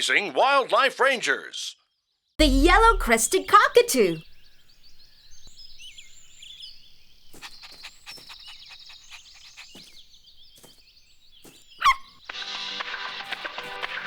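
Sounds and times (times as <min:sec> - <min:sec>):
birds chirping: 0:02.4 - 0:14.0
bird trill: 0:02.7 - 0:14.0.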